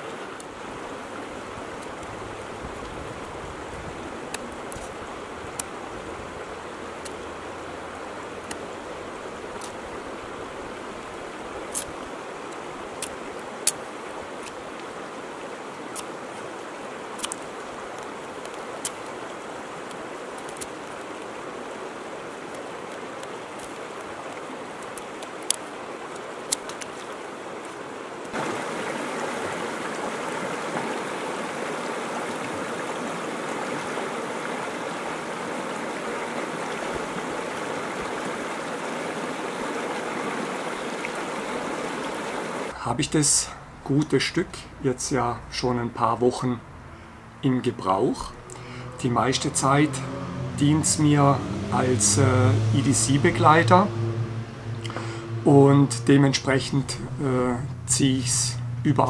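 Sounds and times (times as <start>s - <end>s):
river rushing over stones: 0.0s - 42.8s, 47.2s - 59.0s.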